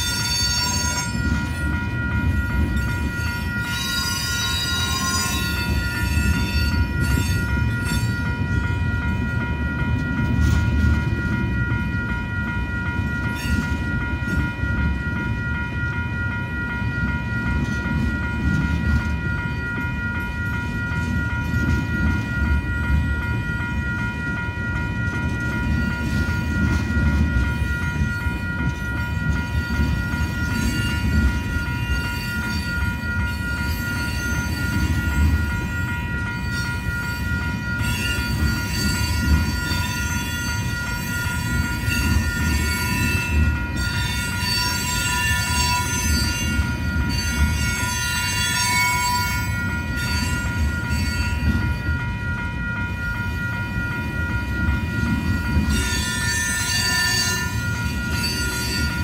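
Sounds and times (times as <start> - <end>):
crossing warning bell ringing: 0.0 - 59.0
train wheels rumbling on rails: 0.0 - 59.0.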